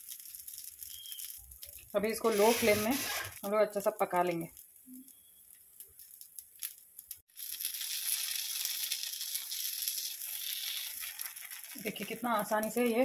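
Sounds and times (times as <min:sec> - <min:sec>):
batter sizzling in oil: 0:00.0 - 0:13.0
faint crackles: 0:00.0 - 0:13.0.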